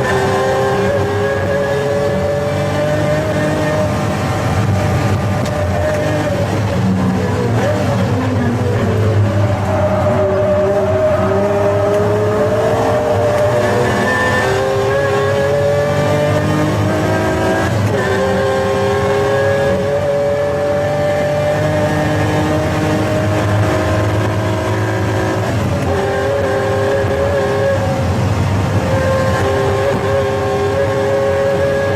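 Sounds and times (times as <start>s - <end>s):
gear upshifts: 0.0s - 31.9s
sports car engine accelerating: 0.0s - 31.9s.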